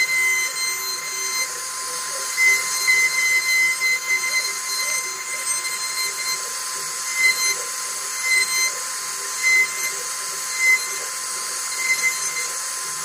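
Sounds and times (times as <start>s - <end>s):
hiss of wood carving: 0.0s - 13.0s
router spindle whining: 0.0s - 13.0s.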